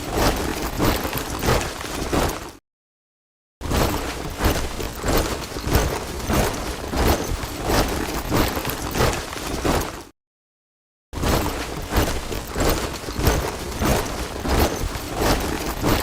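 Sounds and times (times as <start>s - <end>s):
soldiers marching in step: 0.0s - 2.6s, 3.9s - 10.1s, 11.4s - 16.0s.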